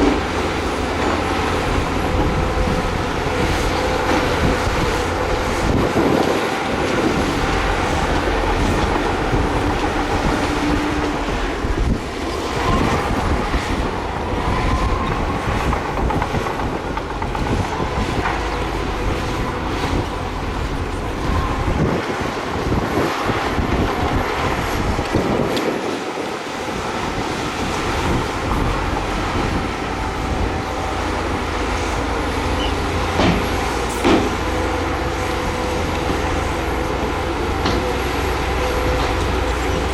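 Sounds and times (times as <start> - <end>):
bulldozer diesel engine: 0.0 - 39.9
steel tracks clanking: 0.0 - 39.9.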